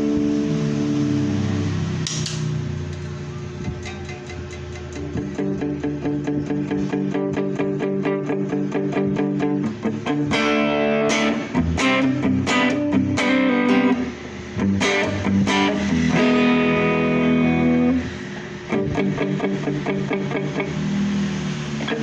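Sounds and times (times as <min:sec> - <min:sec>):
electric guitar chords: 0:00.0 - 0:02.0, 0:03.8 - 0:22.0.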